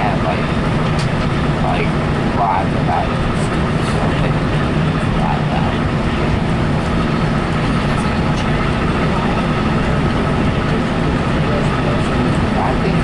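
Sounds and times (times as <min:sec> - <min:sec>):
faint steady whine: 0:00.0 - 0:13.0
train rumble and rushing inside coach: 0:00.0 - 0:13.0.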